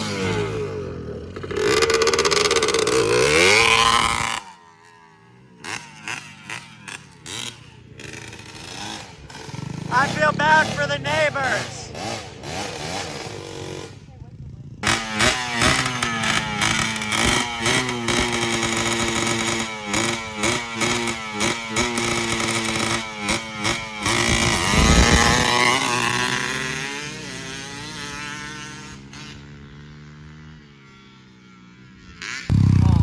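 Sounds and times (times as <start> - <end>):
dirt bike engine revving: 0.0 - 14.1, 14.8 - 33.0.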